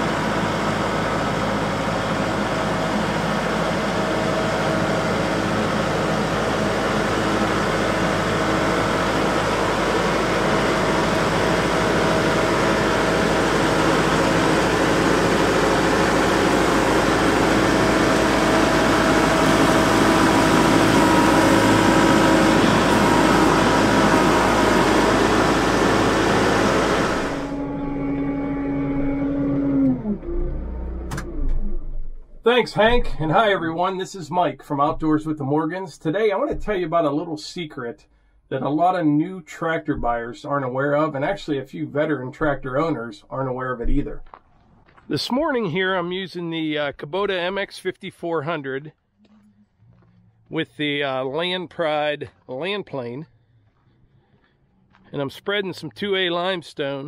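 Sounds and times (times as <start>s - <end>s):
tractor engine droning: 0.0s - 57.0s.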